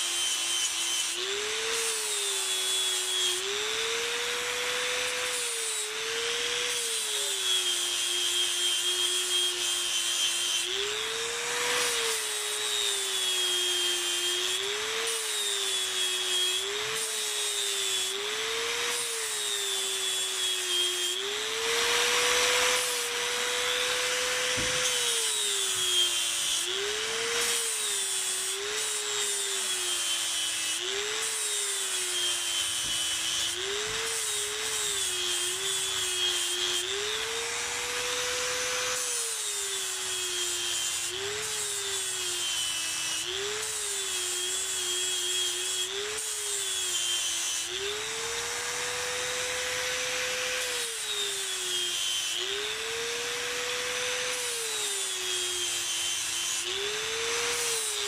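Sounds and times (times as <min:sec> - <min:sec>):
angle grinder grinding horn: 0:00.0 - 0:58.0.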